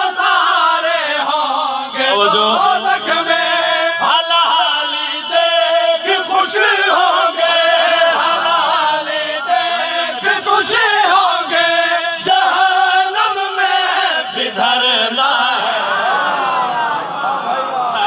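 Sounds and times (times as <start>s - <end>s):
man chanting into a microphone: 0.0s - 16.3s
men chanting in unison: 0.0s - 18.0s.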